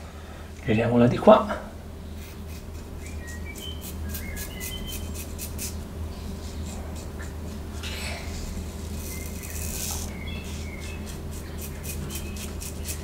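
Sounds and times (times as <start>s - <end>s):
razor scraping stubble: 2.1s - 13.0s.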